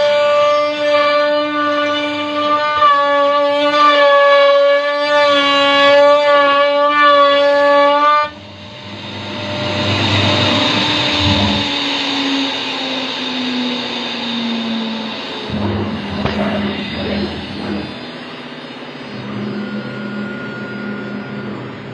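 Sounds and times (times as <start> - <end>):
cnc router spindle whining: 0.0 - 21.9
router cutting wood rasping: 0.0 - 21.9.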